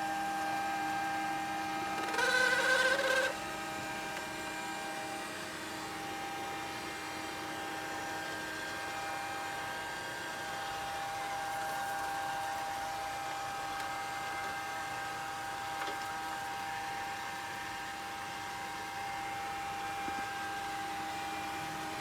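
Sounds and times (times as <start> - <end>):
robot vacuum cleaner running: 0.0 - 22.0.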